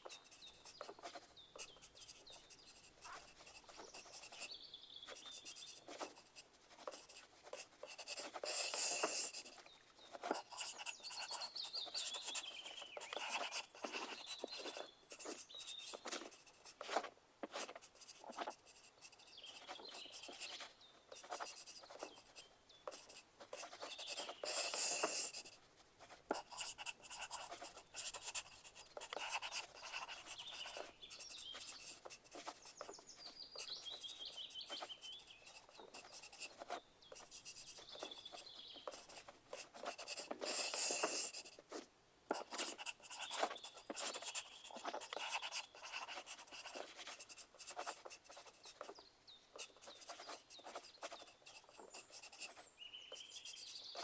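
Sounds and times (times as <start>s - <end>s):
pencils scratching on paper: 0.0s - 49.0s, 49.6s - 54.0s.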